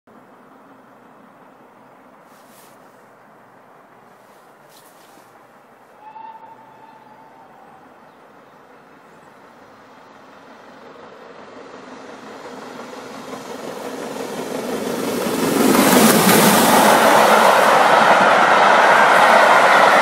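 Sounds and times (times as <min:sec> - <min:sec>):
steam train passing: 0:00.1 - 0:20.0.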